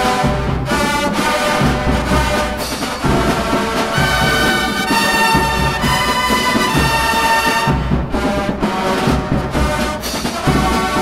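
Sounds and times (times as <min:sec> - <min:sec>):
brass bugles playing chords: 0:00.0 - 0:11.0
drum strikes: 0:00.0 - 0:11.0.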